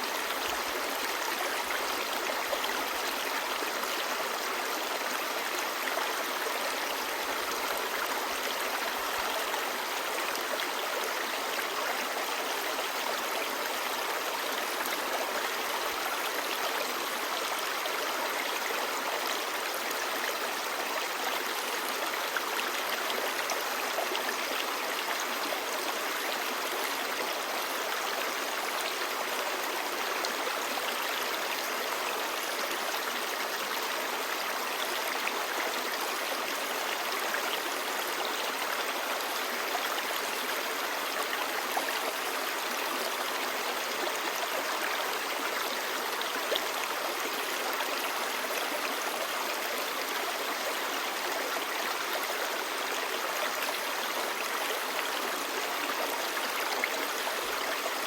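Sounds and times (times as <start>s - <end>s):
stream babbling over rocks: 0.0s - 58.0s.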